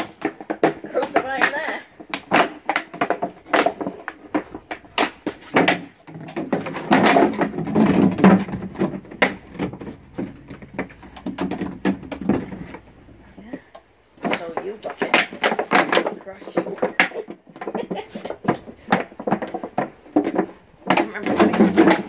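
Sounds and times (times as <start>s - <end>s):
bucket knocking on wooden boards: 0.0s - 12.9s, 13.5s - 22.0s
dog chewing plastic bucket: 2.0s - 12.9s, 14.2s - 22.0s.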